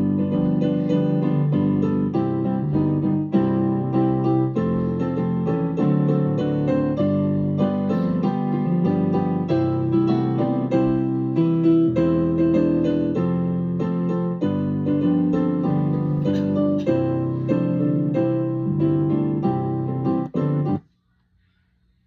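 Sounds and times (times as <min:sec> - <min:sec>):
keyboard piano chords and melody: 0:00.0 - 0:20.8.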